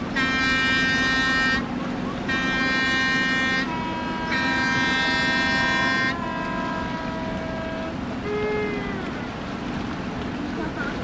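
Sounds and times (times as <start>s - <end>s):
loud high boat horn: 0.0s - 9.7s
lower-pitched boat horns: 0.0s - 10.2s.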